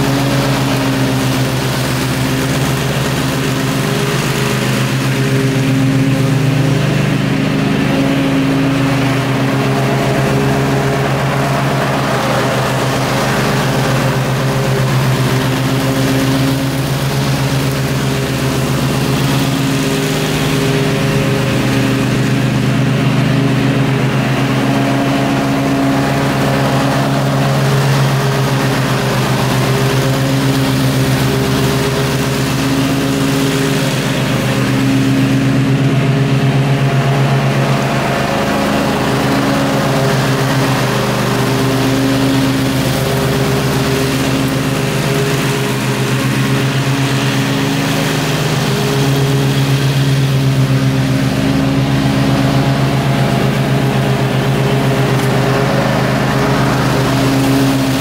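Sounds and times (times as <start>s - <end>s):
riding mower engine running: 0.0s - 58.0s.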